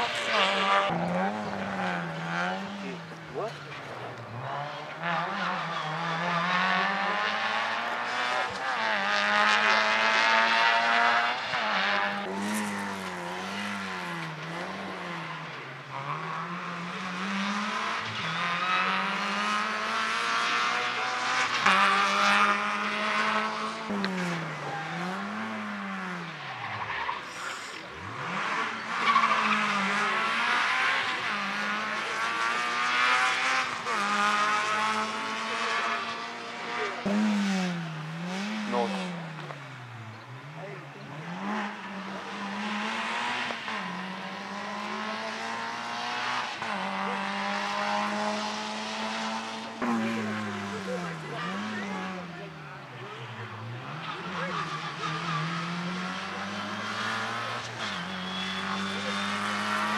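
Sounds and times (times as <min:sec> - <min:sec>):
rally car engines at full throttle: 0:00.0 - 0:59.9.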